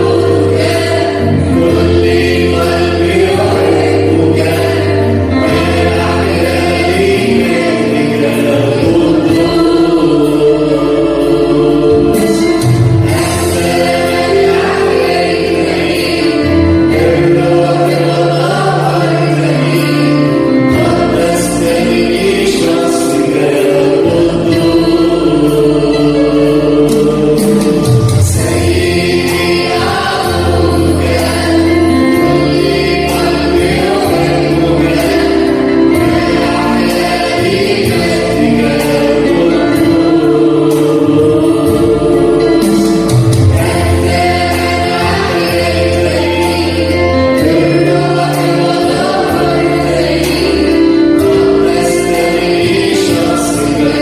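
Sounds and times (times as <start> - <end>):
choir singing a hymn: 0.0 - 54.0
long held bass notes: 0.0 - 54.0.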